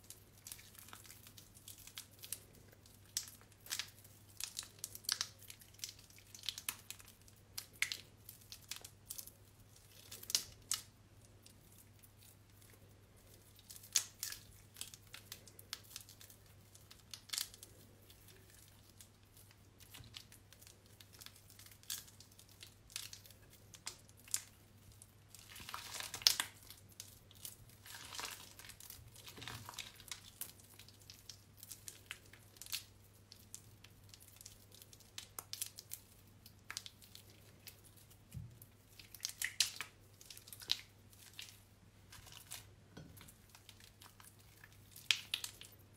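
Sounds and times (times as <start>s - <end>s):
hands squeezing mushy soap: 0.0s - 45.9s.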